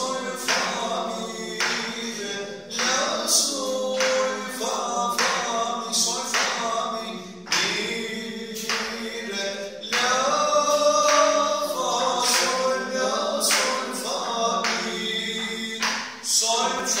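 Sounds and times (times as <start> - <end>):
man singing syllables: 0.0 - 17.0.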